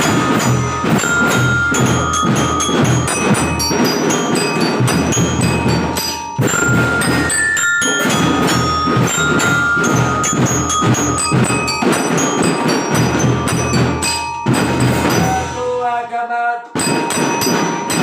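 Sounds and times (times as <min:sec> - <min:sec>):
drum band playing a march: 0:00.0 - 0:15.8, 0:16.8 - 0:18.0
bell lyra melody: 0:00.0 - 0:16.0, 0:16.8 - 0:18.0.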